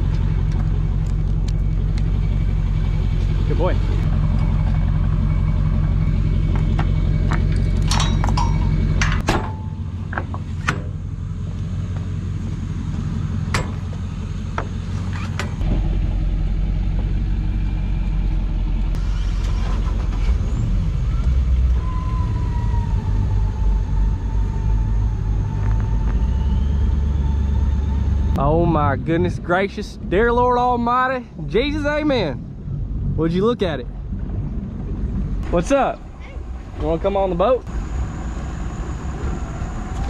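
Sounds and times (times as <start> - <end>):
engine running: 0.0 - 40.0
steady whine: 0.0 - 40.0.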